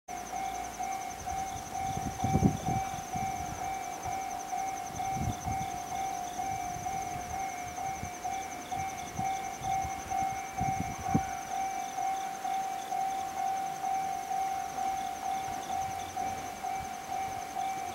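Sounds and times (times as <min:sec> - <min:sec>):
level crossing alarm ringing: 0:00.1 - 0:17.9.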